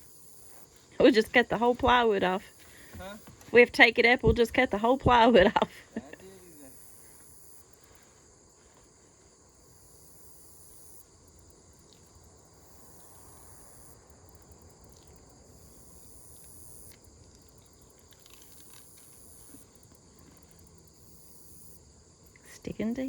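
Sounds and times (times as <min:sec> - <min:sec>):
insect chorus chirring: 0:00.0 - 0:23.0.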